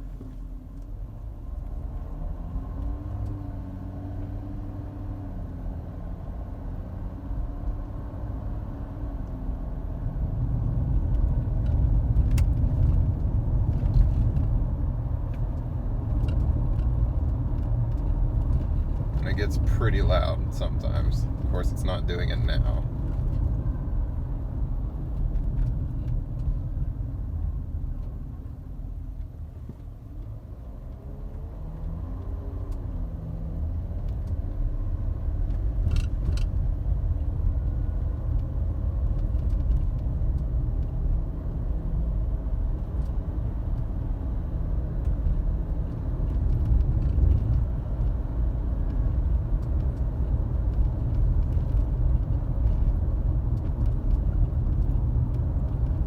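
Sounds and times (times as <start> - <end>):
car road and drivetrain rumble: 0.0 - 56.0.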